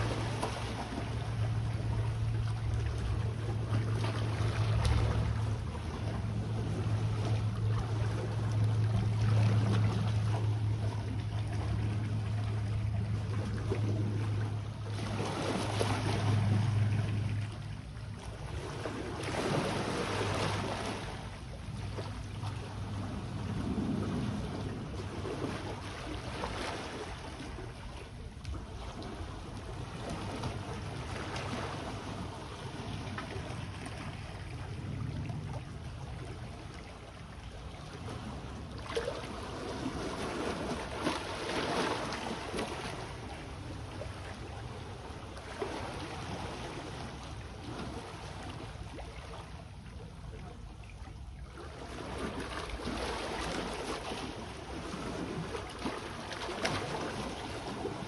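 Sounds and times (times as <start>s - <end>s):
low steady hum: 0.0s - 58.0s
small waves washing onto shore: 0.0s - 58.0s.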